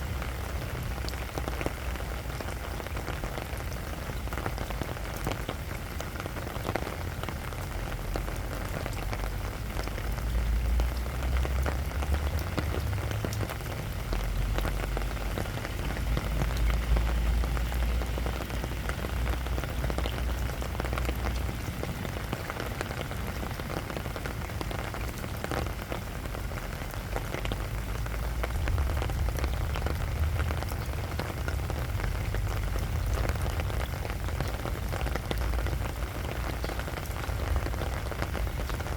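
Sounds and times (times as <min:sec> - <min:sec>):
rain on sandy ground: 0:00.0 - 0:38.9.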